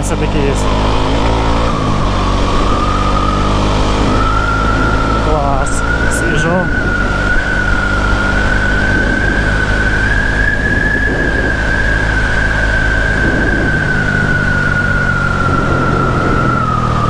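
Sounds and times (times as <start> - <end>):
motorcycle engine running: 0.0 - 17.0
steady high whine: 0.0 - 17.0.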